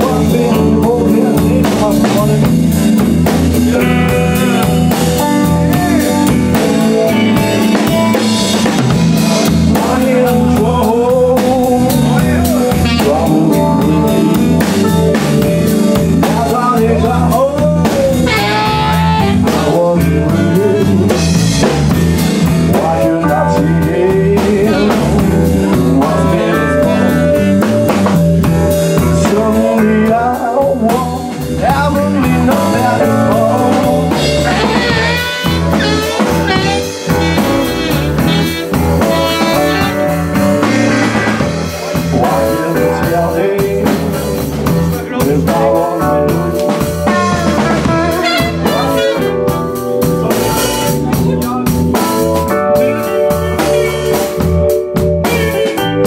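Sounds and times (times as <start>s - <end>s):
bass guitar: 0.0s - 56.0s
drum kit: 0.0s - 56.0s
electric guitar: 0.0s - 56.0s
man singing: 0.0s - 56.0s.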